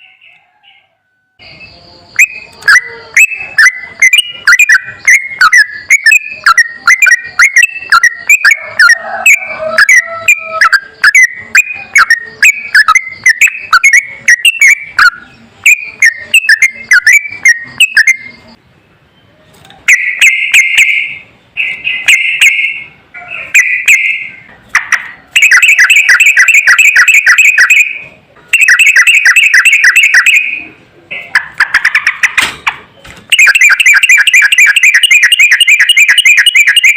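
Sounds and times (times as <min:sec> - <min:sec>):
bird song with whistled notes: 0:00.0 - 0:30.8, 0:32.9 - 0:36.9.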